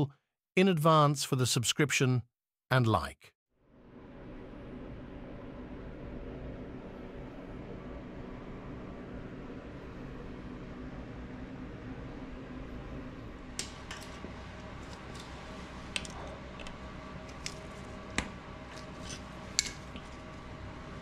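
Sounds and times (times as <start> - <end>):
low background hum: 3.7 - 21.0.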